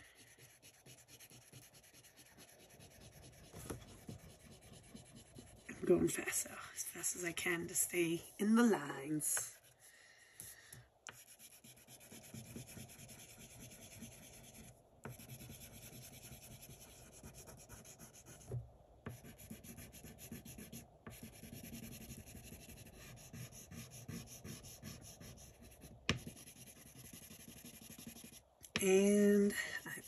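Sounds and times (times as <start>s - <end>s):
crayon rubbing on paper: 0.0s - 6.2s, 11.1s - 29.4s.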